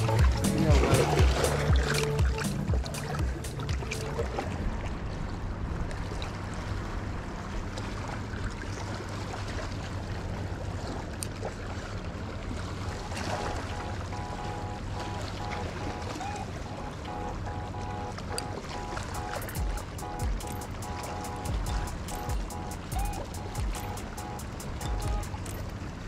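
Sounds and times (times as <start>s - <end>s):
steady low rumble: 0.0s - 11.1s, 11.8s - 26.0s
small waves lapping on rocks: 0.0s - 21.1s.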